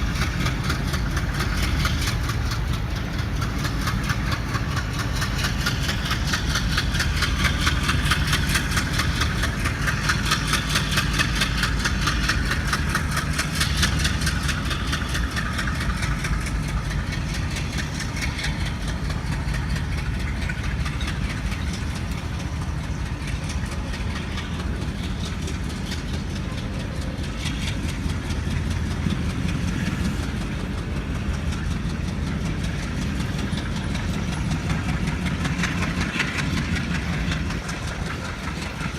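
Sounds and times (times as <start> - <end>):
diesel locomotive engines chugging: 0.0 - 38.9.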